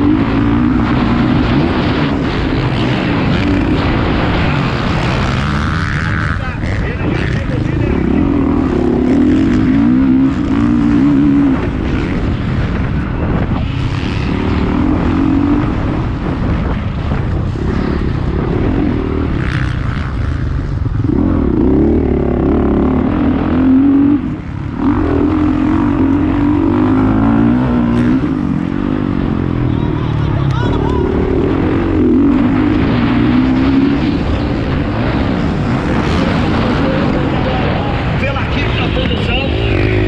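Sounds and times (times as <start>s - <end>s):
motocross bike engine revving: 0.0s - 40.0s.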